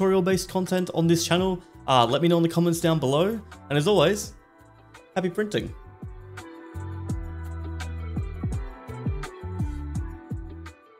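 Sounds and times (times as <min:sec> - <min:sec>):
electronic music with bass and drums: 0:00.0 - 0:10.9.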